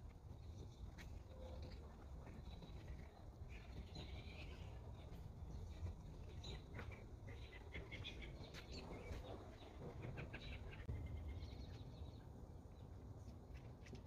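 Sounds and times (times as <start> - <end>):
low rumble of wind: 0.0 - 14.0
small birds chirping: 0.0 - 14.0.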